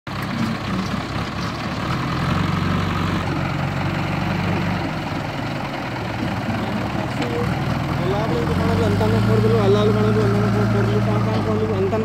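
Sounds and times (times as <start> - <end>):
diesel engines running: 0.1 - 12.0.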